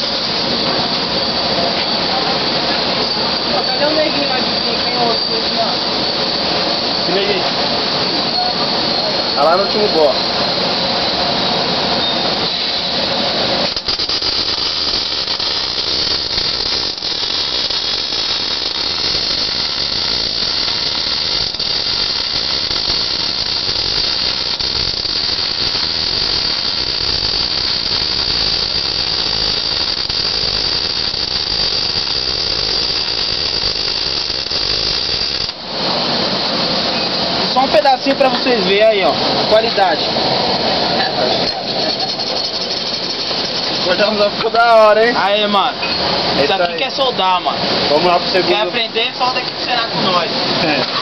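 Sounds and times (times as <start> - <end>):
welding arc hissing and whining: 0.0 - 51.0.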